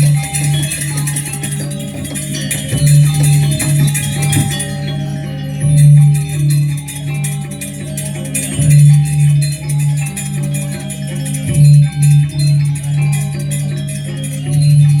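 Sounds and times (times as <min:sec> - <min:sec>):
low held tone: 0:00.0 - 0:15.0
metal-keyed gamelan runs: 0:00.0 - 0:15.0
small cymbals clashing: 0:00.0 - 0:15.0.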